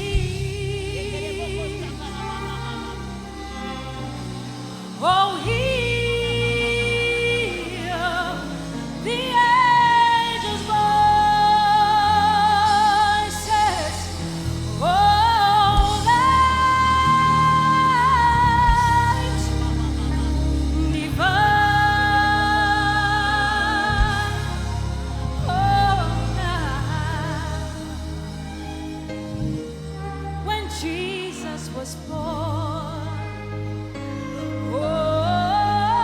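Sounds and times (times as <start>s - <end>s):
gospel band with steady bass: 0.0s - 36.0s
person singing with vibrato: 0.0s - 36.0s.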